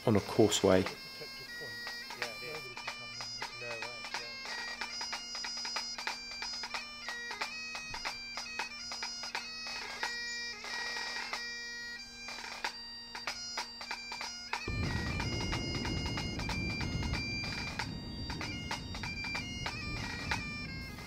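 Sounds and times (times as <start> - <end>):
bagpipe chanter melody: 0.0 - 21.0
bagpipe drone: 0.0 - 21.0.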